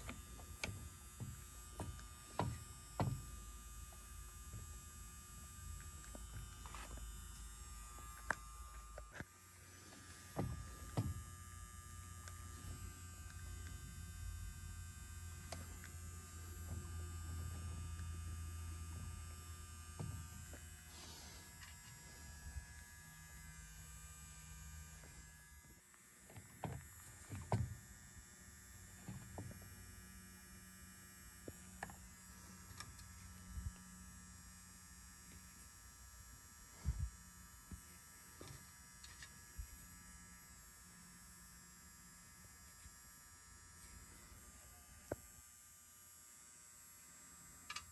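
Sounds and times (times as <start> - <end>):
small electric motor humming: 0.0 - 47.9.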